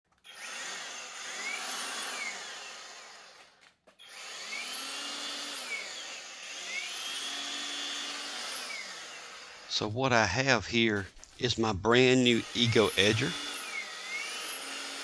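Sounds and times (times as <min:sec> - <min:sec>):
electric motor whining: 0:00.2 - 0:09.8, 0:12.2 - 0:15.0.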